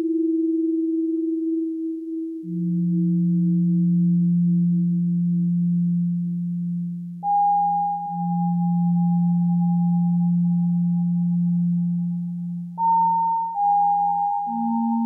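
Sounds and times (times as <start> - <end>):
middle synthesizer tone: 0.0 - 15.0
low synthesizer tone: 0.8 - 15.0.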